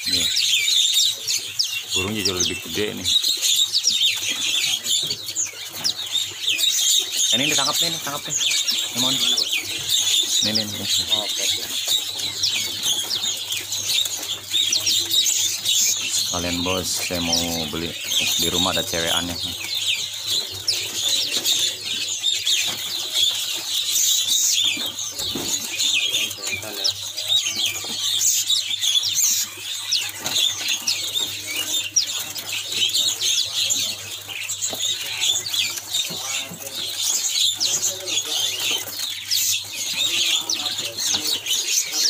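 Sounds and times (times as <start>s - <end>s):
songbirds chirping rapidly: 0.0s - 42.0s.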